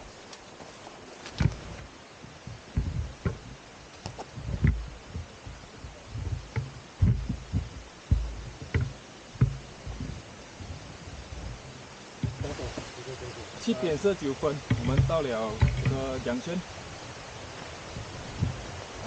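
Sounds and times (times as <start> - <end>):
footsteps low thuds: 0.0 - 13.0, 13.7 - 19.0.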